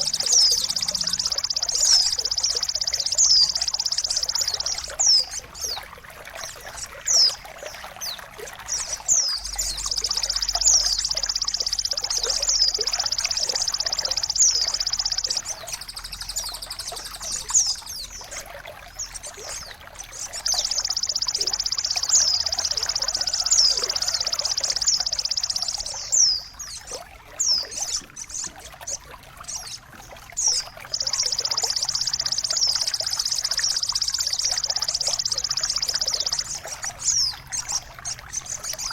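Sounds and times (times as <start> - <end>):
fast high-pitched bird trills: 0.0 - 38.9
running water trickling: 0.0 - 38.9.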